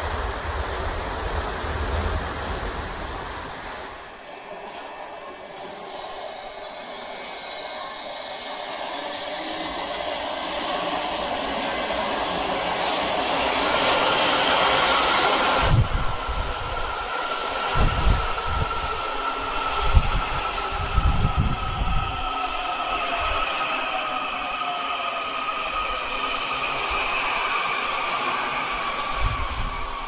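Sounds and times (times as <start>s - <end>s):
high train whine: 0.0s - 30.0s
train wheels rumbling on rail: 0.0s - 30.0s.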